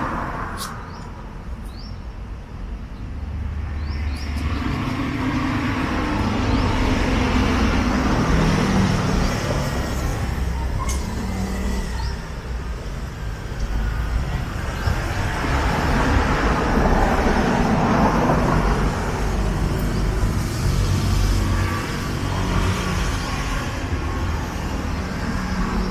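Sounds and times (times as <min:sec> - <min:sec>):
road hiss of passing vehicle: 0:00.0 - 0:25.9
vehicle engines running: 0:00.0 - 0:25.9.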